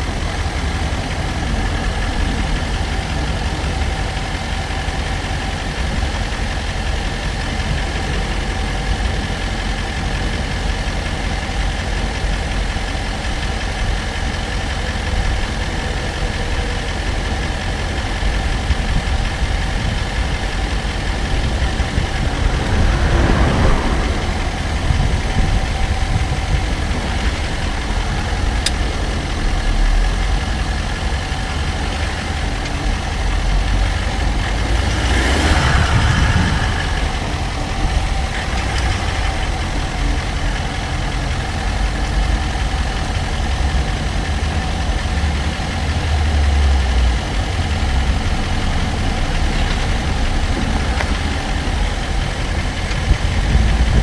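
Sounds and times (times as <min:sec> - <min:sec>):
car engine running: 0:00.0 - 0:54.0
road hum: 0:00.0 - 0:54.0.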